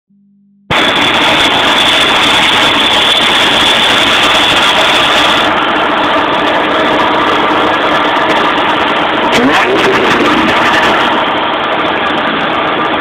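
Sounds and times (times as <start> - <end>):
supercharged engine idling: 0.7 - 13.0.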